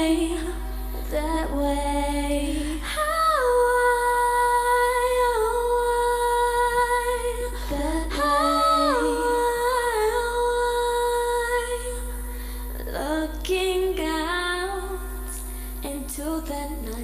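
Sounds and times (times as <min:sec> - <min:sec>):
low sustained sung note: 0:00.0 - 0:17.0
women singing harmonies: 0:00.0 - 0:17.0.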